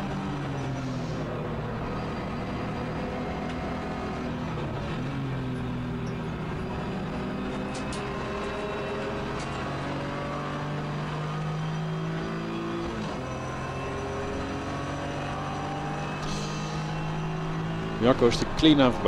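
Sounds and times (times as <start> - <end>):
car engine revving under full throttle: 0.0 - 19.0.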